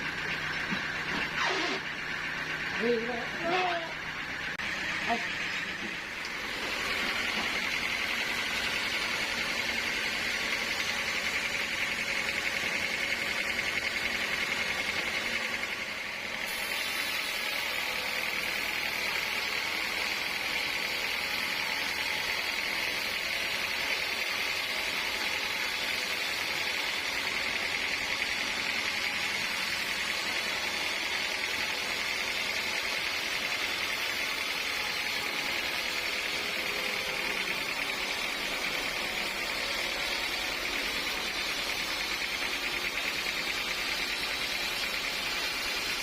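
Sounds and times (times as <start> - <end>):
sawmill saw cutting wood: 0.0 - 46.0.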